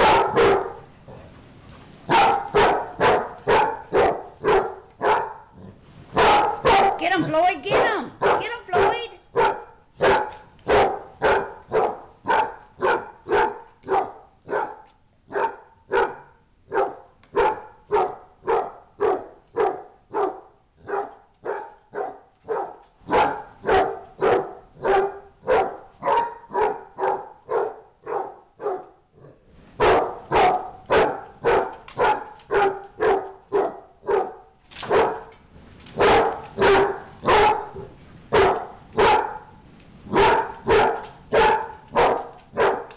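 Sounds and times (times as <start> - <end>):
dog barking: 0.0 - 0.9, 2.1 - 29.0, 29.8 - 35.3, 36.0 - 42.9.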